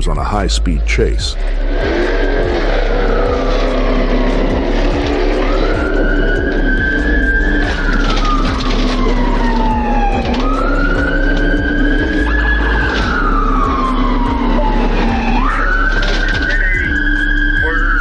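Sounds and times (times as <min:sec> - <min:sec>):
police siren wailing: 0:01.4 - 0:18.0.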